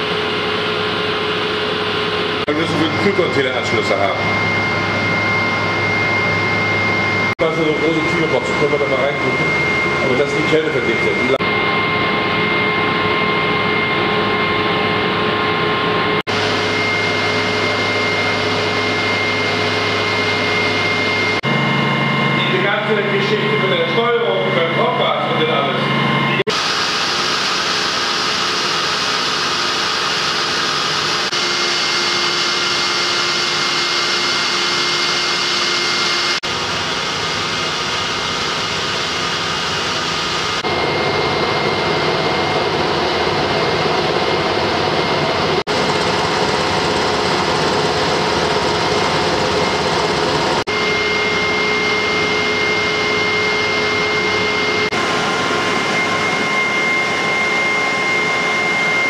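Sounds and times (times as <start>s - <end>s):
engine room machinery drone: 0.0s - 59.0s.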